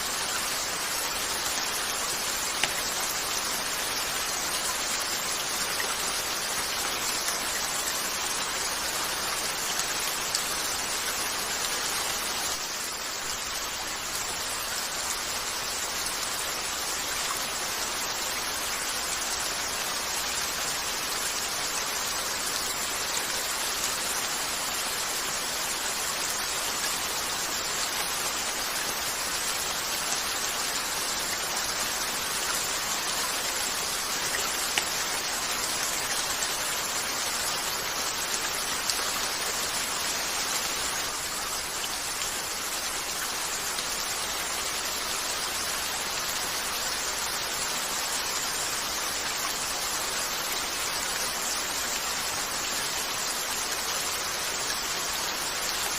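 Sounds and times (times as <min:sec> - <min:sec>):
rain on a window: 0:00.0 - 0:55.9.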